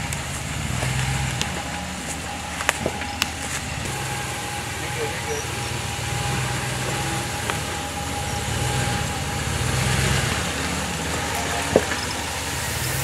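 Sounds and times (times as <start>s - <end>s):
engine running low: 0.0s - 13.0s.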